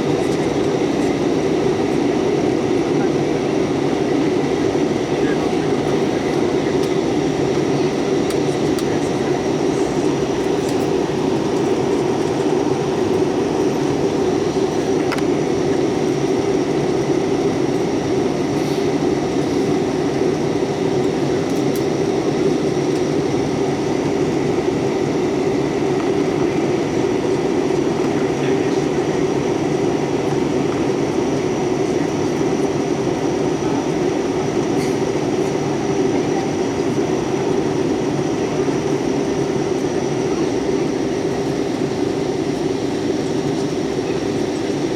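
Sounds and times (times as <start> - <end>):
jet airliner cabin noise: 0.0 - 44.9.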